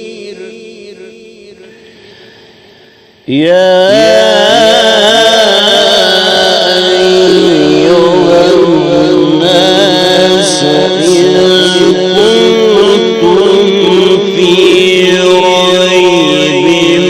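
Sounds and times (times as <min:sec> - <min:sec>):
man chanting recitation: 0:00.0 - 0:02.0, 0:03.2 - 0:17.0.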